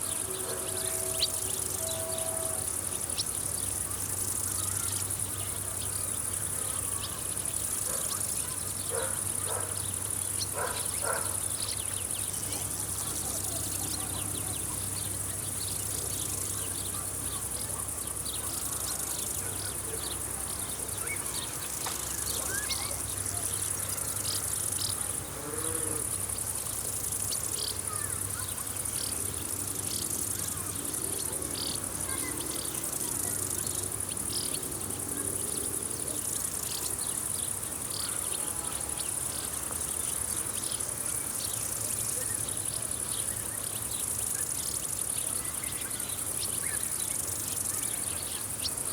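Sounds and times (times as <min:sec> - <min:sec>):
crickets chirring: 0:00.0 - 0:48.9.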